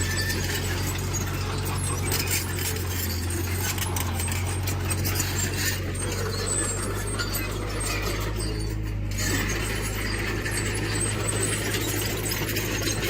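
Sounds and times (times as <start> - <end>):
diesel engine running: 0.0 - 13.0
metallic clinking and rattling: 0.0 - 13.0.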